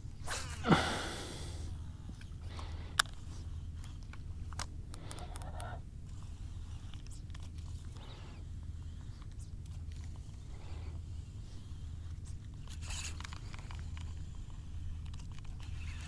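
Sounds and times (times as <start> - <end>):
low steady rumble: 0.0 - 16.0
fishing tackle clicks and rustles: 2.1 - 16.0.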